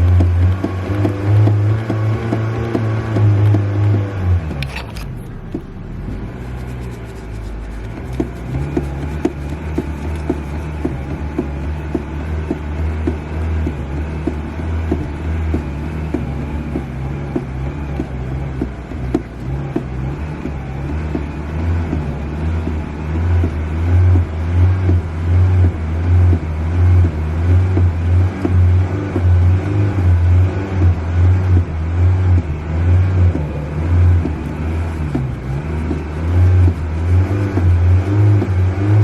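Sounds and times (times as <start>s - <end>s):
car engine idling: 0.0s - 39.0s
car engine revving: 0.0s - 39.0s.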